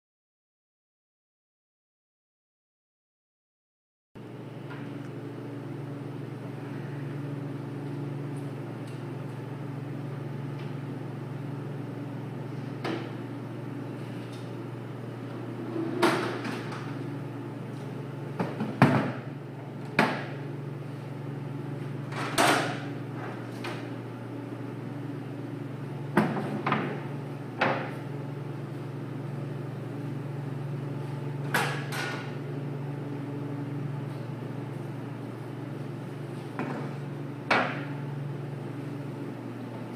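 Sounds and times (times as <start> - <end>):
steady low hum: 4.2 - 39.9.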